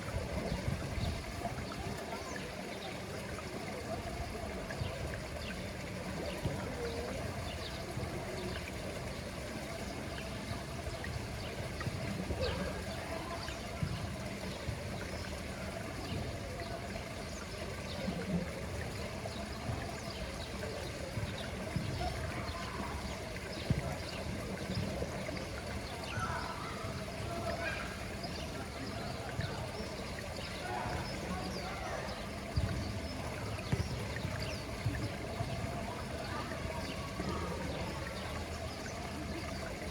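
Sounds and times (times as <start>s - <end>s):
pool water trickling and splashing: 0.0s - 39.9s
water drips: 0.0s - 39.9s.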